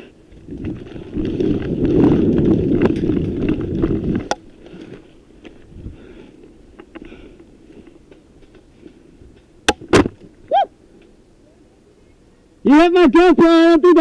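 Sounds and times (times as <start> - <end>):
rustling of movement: 0.0 - 12.6.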